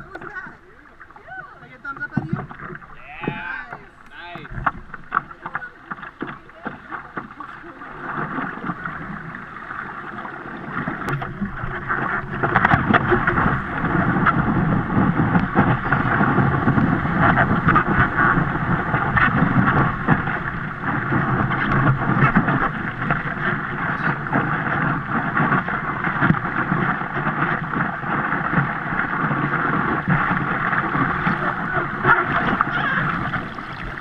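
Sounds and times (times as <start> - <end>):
whitewater rushing and splashing: 0.0 - 34.0
wind buffeting microphone: 0.0 - 34.0.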